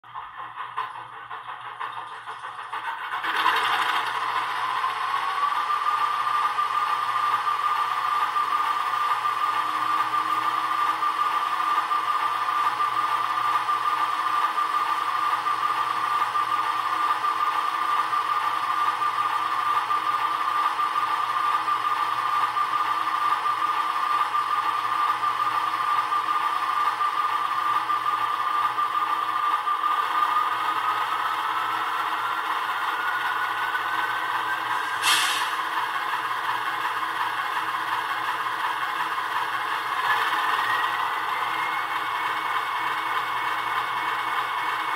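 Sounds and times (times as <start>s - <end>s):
model diesel engine sound: 0.0s - 44.9s.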